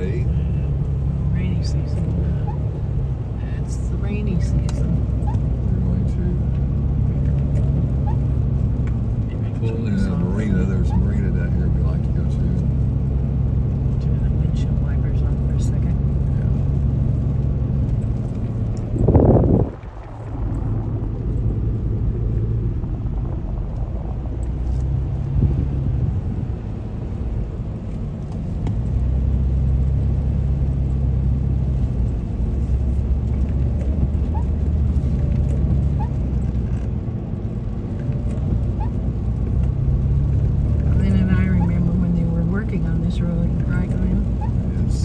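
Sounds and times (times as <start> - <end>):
car engine hum: 0.0 - 45.0
road noise inside car: 0.0 - 45.0.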